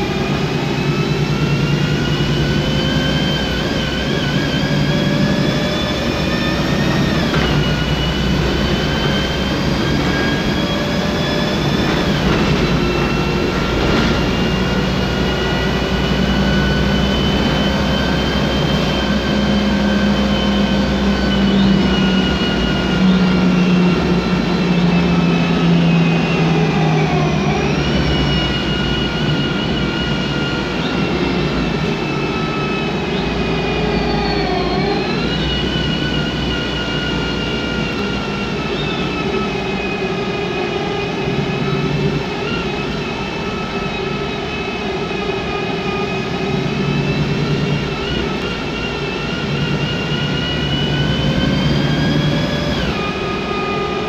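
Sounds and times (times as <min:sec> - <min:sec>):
bus engine running: 0:00.0 - 0:54.0
loud gearbox whine: 0:00.0 - 0:54.0.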